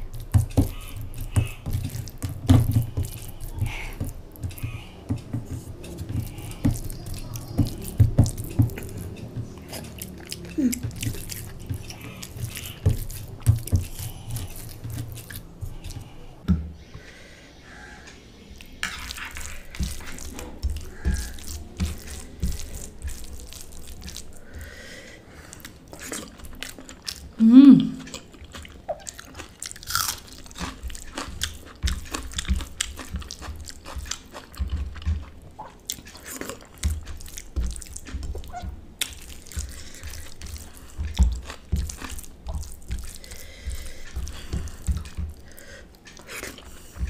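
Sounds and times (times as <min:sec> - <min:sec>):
fingers squishing sticky rice: 0:00.0 - 0:16.9, 0:18.6 - 0:27.4, 0:28.0 - 0:47.0.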